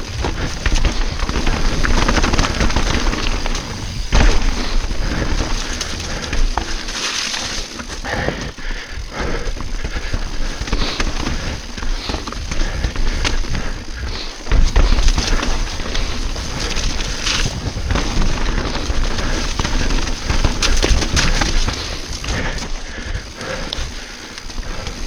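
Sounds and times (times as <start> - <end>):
bike tyres knocking and rattling: 0.0 - 25.0
rider breathing hard: 0.0 - 25.0.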